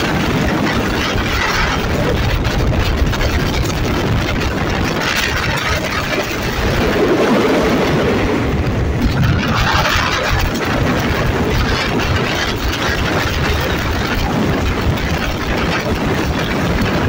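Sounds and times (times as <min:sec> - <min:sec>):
locomotive engine running: 0:00.0 - 0:17.0
train wheels rumbling on rails: 0:00.0 - 0:17.0.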